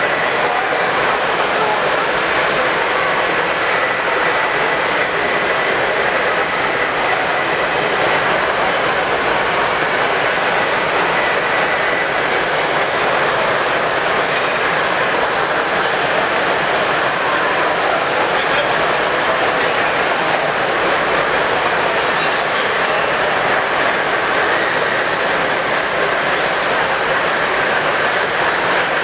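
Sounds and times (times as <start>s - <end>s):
crowded hall din: 0.0s - 29.0s.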